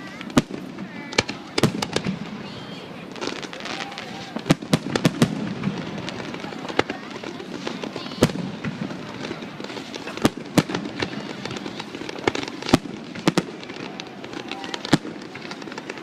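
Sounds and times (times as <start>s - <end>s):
fireworks bangs: 0.0s - 16.0s
fireworks crackles: 0.0s - 16.0s.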